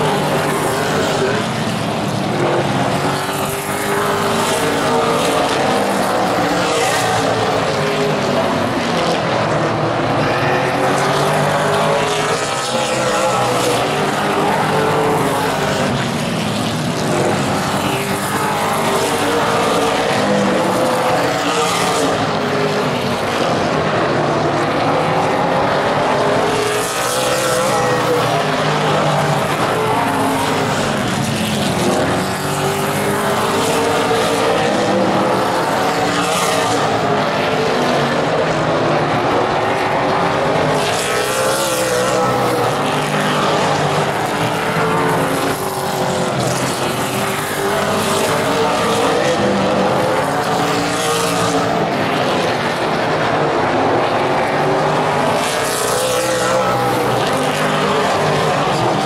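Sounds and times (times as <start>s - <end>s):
race car engines running hard: 0.0s - 59.0s
race cars passing by: 0.0s - 59.0s.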